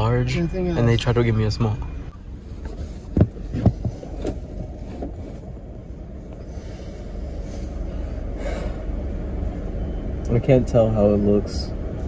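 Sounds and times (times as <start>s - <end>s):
car rumble from inside cabin: 0.0s - 12.0s.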